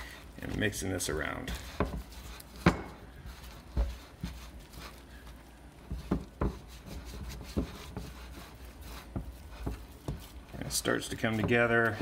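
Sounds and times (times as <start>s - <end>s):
hands kneading wet dough: 0.0s - 12.0s.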